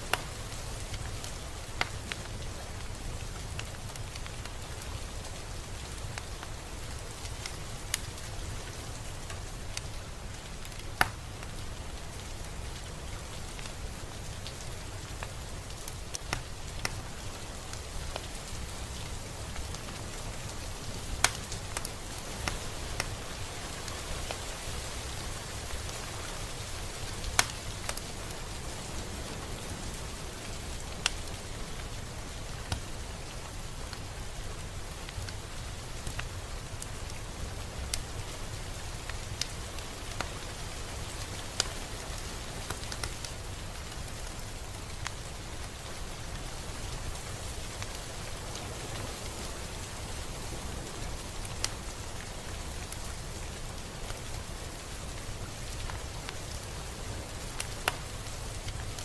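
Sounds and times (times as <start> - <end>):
close raindrops ticking: 0.0 - 59.0
steady rain hiss: 0.0 - 59.0.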